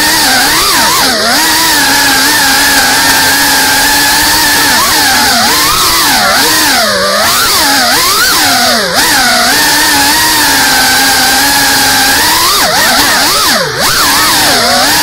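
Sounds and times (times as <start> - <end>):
drone motors and propellers buzzing: 0.0 - 15.0.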